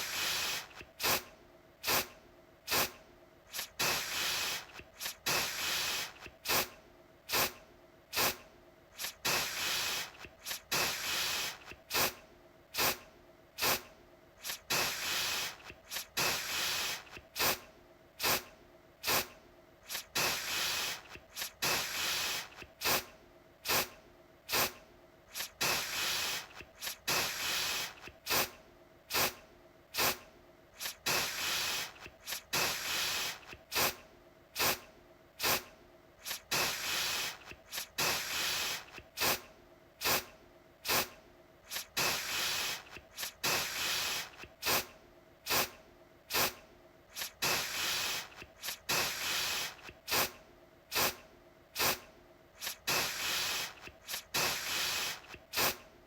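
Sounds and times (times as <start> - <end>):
aerosol spray can hissing: 0.0 - 2.1, 2.7 - 8.4, 9.0 - 12.2, 12.8 - 13.0, 13.6 - 17.6, 18.2 - 29.4, 30.0 - 30.2, 30.8 - 34.0, 34.6 - 34.8, 35.4 - 44.9, 45.5 - 51.2, 51.8 - 52.0, 52.6 - 55.8.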